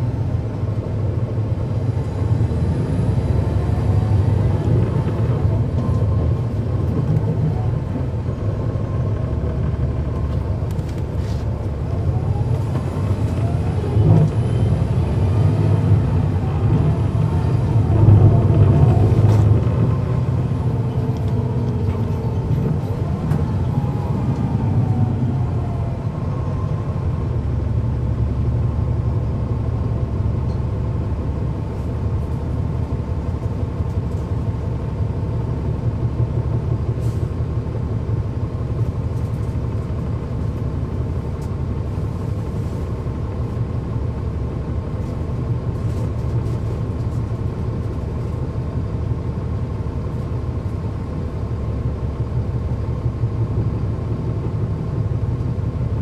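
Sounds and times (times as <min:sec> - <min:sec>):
diesel bus engine rumble: 0:00.0 - 0:56.0
steady engine whine: 0:00.0 - 0:56.0.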